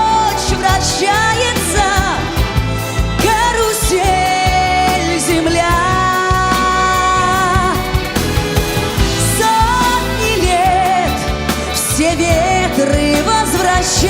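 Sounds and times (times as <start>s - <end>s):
orchestra with drums: 0.0s - 14.0s.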